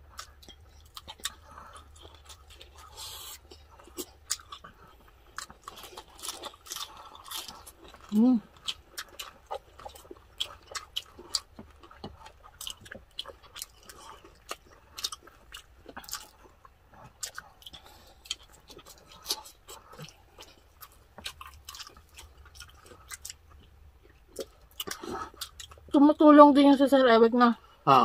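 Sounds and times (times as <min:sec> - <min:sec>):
people chewing: 0:00.0 - 0:26.0.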